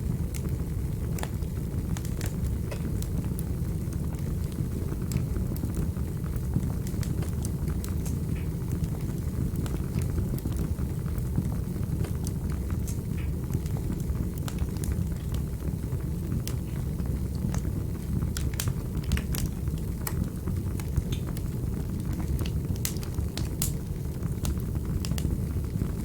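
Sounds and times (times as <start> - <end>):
burning logs crackling and popping: 0.0 - 26.0
rumble of flames: 0.0 - 26.0.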